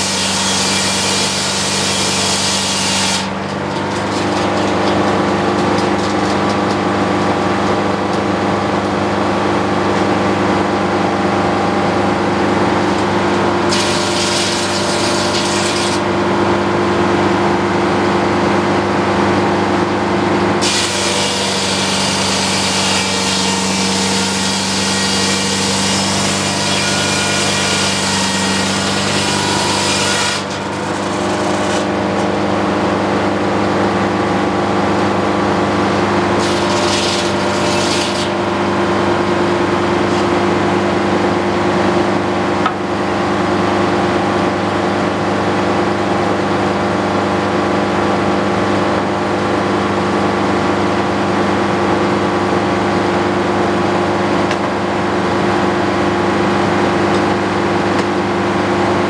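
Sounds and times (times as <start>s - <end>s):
sawmill engine and blade hum: 0.0s - 59.0s.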